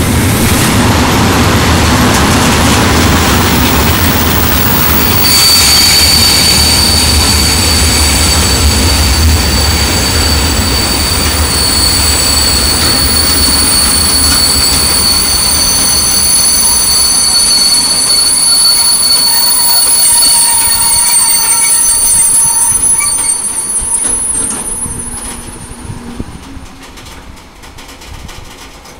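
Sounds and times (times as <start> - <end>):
train rolling noise: 0.0 - 28.9
train wheels squealing: 3.2 - 26.4.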